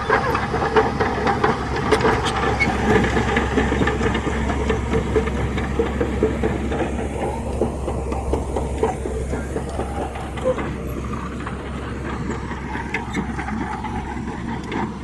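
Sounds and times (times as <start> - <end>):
irregular machinery rattle: 0.0 - 15.0
low diesel engine drone: 0.0 - 15.0.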